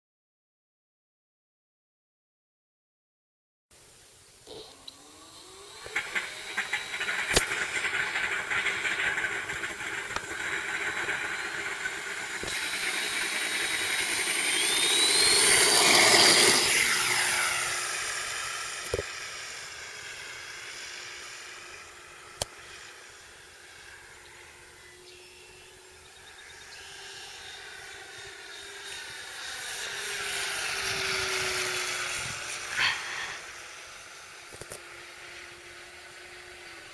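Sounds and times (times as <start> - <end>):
model airplane propeller whine: 3.8 - 36.9.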